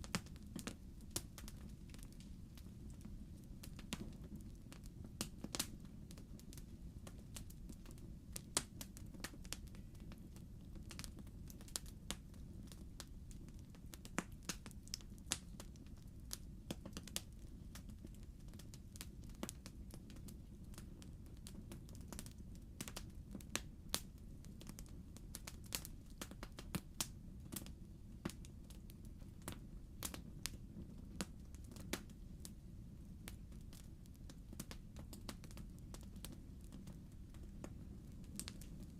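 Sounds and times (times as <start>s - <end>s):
burning logs crackling and popping: 0.0s - 38.9s
low rumble of fire: 0.0s - 38.9s.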